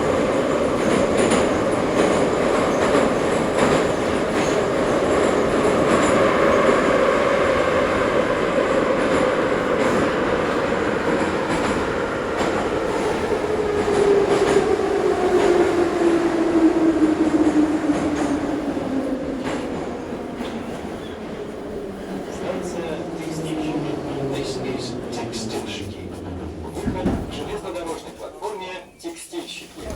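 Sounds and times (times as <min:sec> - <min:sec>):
metro train rumble: 0:00.0 - 0:29.9.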